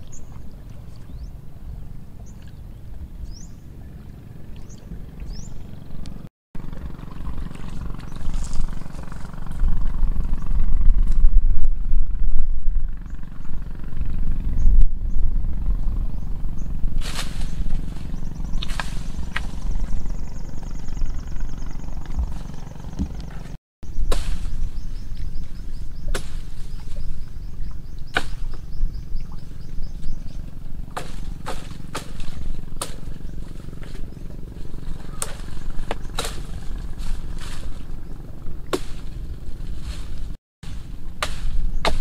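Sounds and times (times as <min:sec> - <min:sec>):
wind rumble on microphone: 0:00.0 - 0:42.0.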